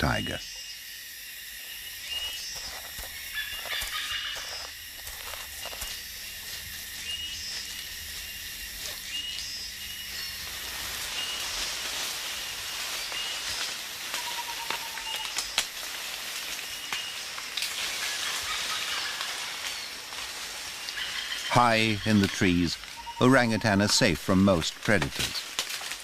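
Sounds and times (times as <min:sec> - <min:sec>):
insects hissing: 0:00.0 - 0:26.0.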